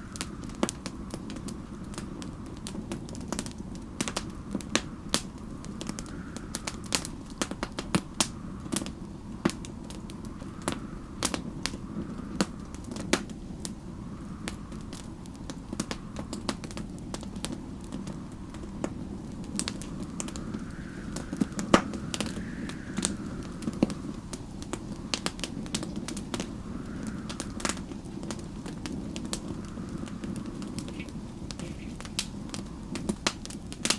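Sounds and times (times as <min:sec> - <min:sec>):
faint storm wind: 0:00.0 - 0:33.9
wood fire crackling and popping: 0:00.0 - 0:33.9.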